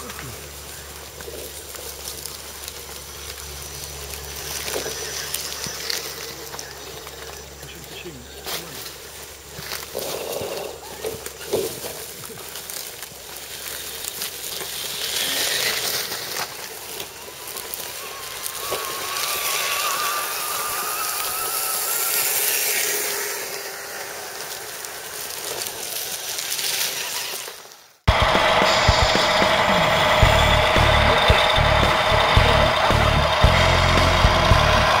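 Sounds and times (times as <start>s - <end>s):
faint wavering whine: 0.0s - 27.0s, 28.1s - 35.0s
leaves crunching under tyres: 0.0s - 35.0s.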